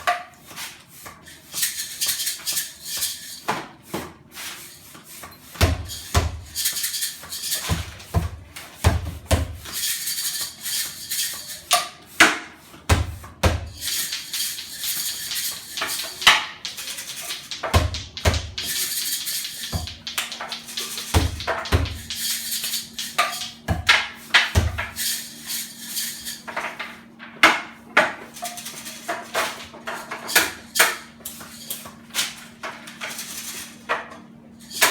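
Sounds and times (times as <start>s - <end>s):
shaker rattle: 1.3s - 3.5s, 4.4s - 8.9s, 9.5s - 12.2s, 13.6s - 27.1s, 28.2s - 33.9s, 34.6s - 34.9s.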